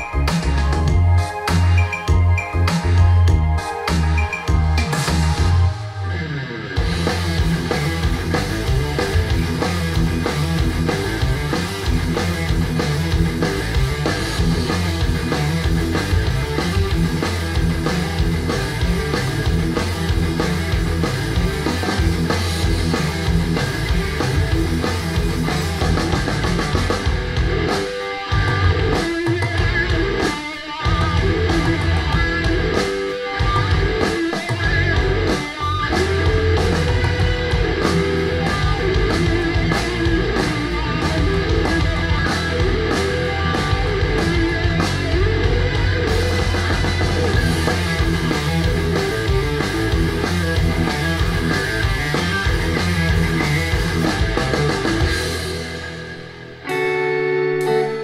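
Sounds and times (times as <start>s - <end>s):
metal music over loudspeakers: 0.0s - 58.0s.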